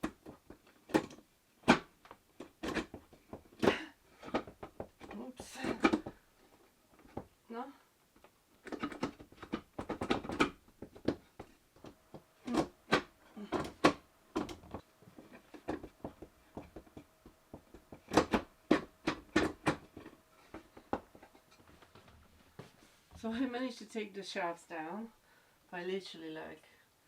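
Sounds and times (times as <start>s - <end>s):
objects being handled and set down: 0.0s - 7.4s, 8.1s - 23.3s.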